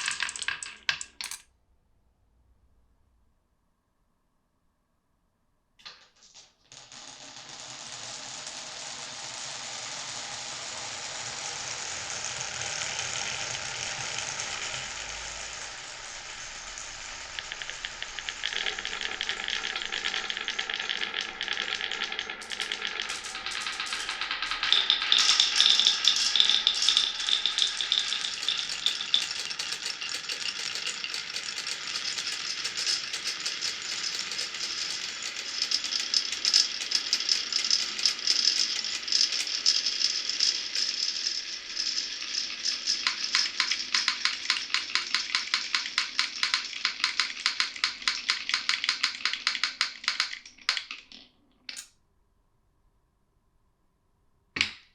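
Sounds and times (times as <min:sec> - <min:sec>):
marbles rolling down wooden run: 0:00.0 - 0:01.4, 0:05.8 - 0:51.3.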